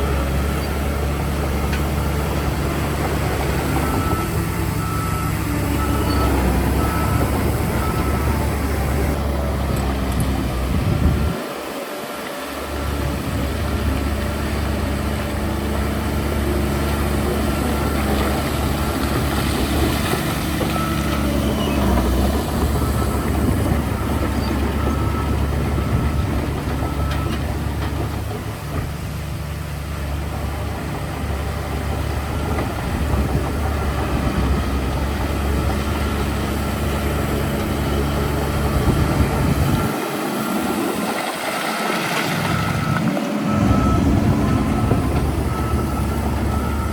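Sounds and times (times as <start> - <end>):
diesel engine deep rumble: 0.0 - 46.9.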